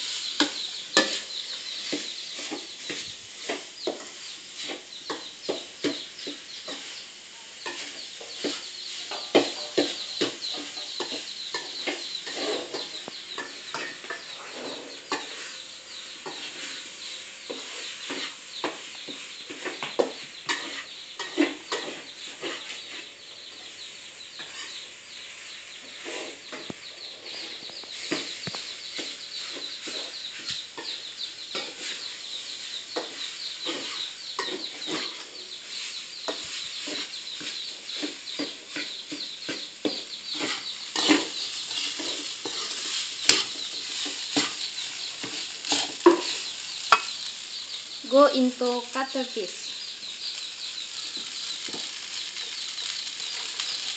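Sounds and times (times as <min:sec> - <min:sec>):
metal spatula scraping a wok: 0:00.0 - 0:23.8, 0:24.4 - 0:47.9, 0:49.9 - 0:53.9
oil sizzling: 0:00.0 - 0:53.9.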